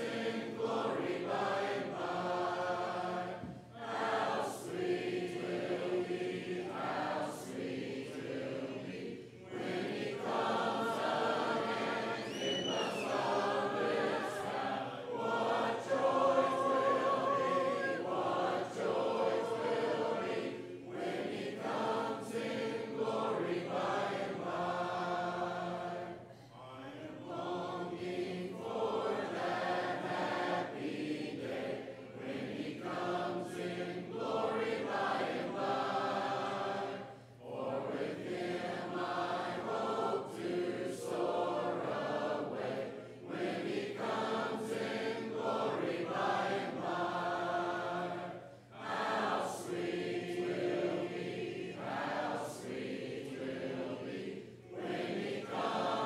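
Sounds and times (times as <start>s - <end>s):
congregation singing a hymn: 0.0s - 56.0s.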